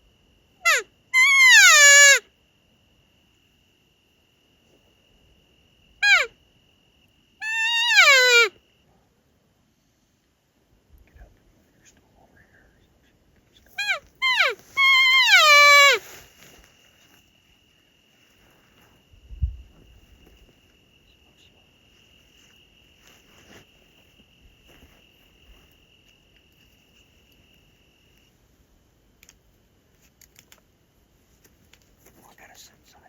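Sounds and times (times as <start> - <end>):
cricket trilling: 0.0 - 33.0.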